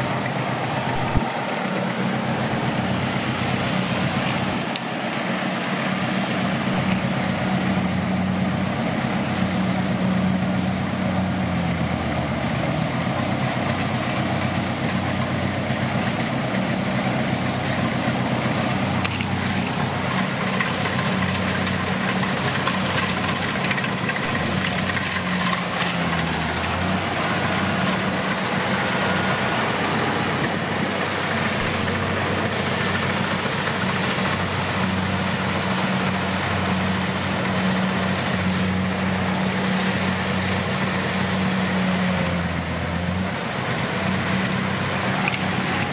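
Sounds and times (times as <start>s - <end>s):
utility vehicle engine idling: 0.0s - 45.9s.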